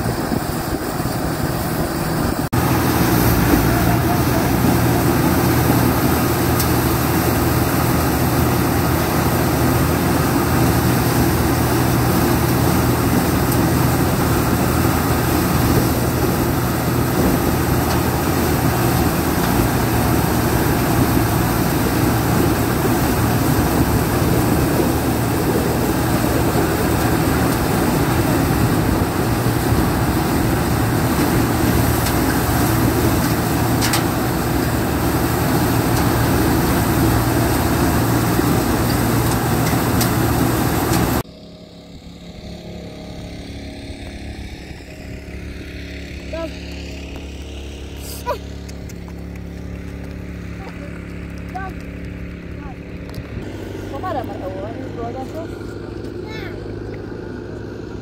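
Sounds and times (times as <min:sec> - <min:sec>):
tractor engine driving a thresher: 0:00.0 - 0:58.0.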